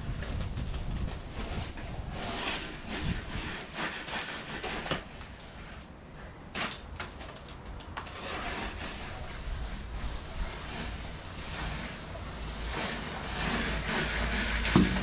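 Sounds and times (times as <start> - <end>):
hand tool scraping stucco: 0.0 - 15.0.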